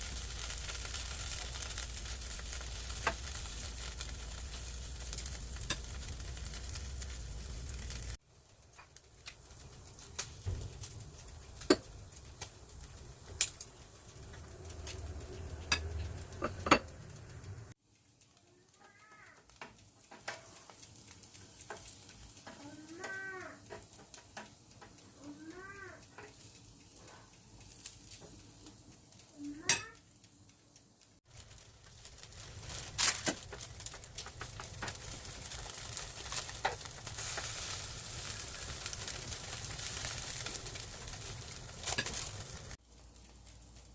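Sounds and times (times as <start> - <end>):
meat sizzling on grill: 0.0 - 43.9.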